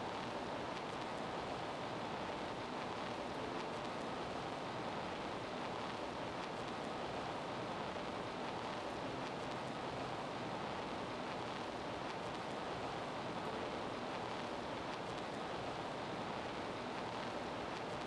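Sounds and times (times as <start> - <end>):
steady noise hiss: 0.0 - 18.0.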